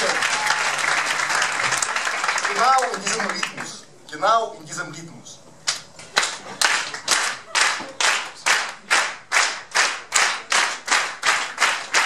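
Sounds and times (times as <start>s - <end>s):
hands clapping steady beat: 0.0s - 3.8s, 5.6s - 12.0s.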